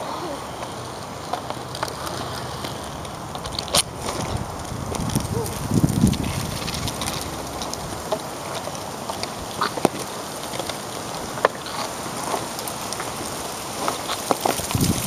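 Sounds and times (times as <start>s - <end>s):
hockey sticks clacking on asphalt: 0.5s - 15.0s.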